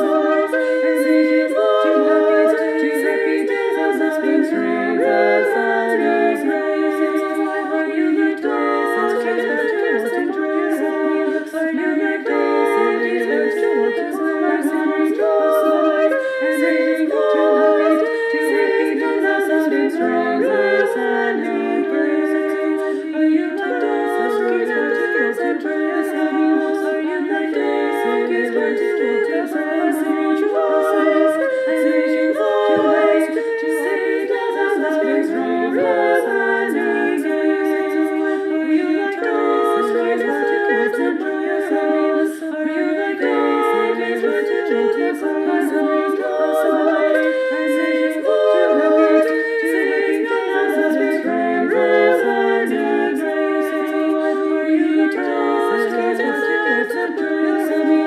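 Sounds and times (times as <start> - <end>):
voices singing in harmony: 0.0 - 58.0.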